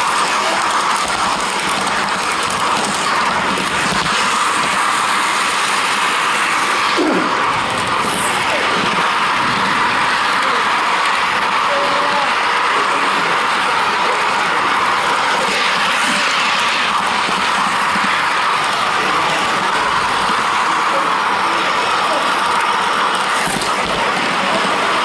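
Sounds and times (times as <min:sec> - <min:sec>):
model train wheels rolling: 0:00.0 - 0:25.0.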